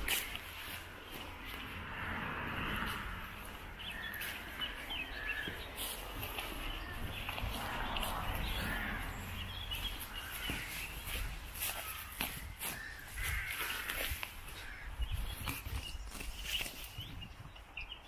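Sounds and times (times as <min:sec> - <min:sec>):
small birds chirping: 0:00.0 - 0:01.9, 0:02.6 - 0:18.0
footsteps through long grass: 0:00.0 - 0:17.7.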